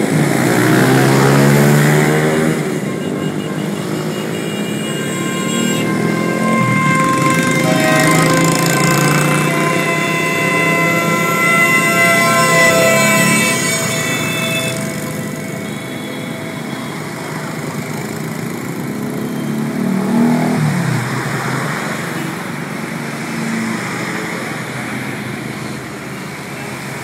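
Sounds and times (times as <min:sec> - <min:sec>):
motorcycles and scooters passing: 0:00.0 - 0:23.1
buses and truck passing: 0:00.0 - 0:27.0.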